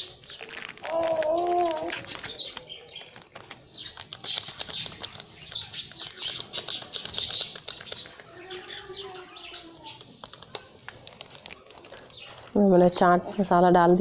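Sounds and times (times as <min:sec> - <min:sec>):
paper sachet crinkling: 0:00.0 - 0:13.0
small birds chirping: 0:00.0 - 0:14.0.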